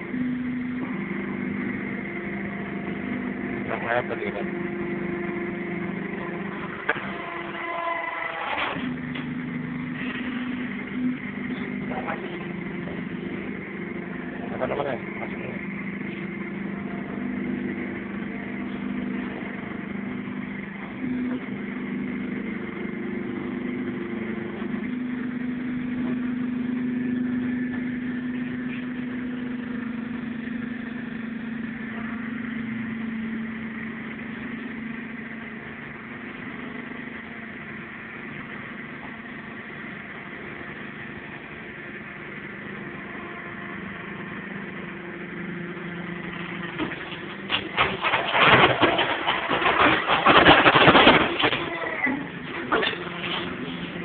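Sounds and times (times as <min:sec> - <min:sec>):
tyre-cutting machine engine running: 0:00.0 - 0:54.0.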